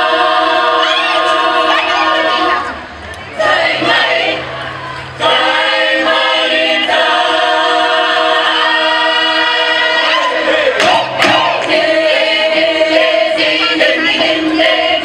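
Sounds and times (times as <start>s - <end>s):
women's choir singing in harmony: 0.0s - 15.0s.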